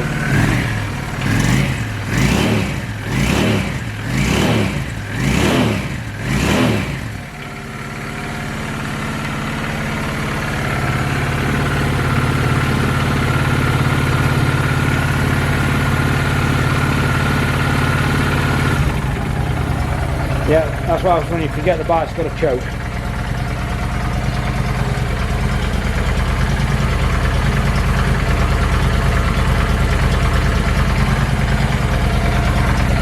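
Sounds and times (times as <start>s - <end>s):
motorcycle engine revving and idling: 0.0s - 33.0s.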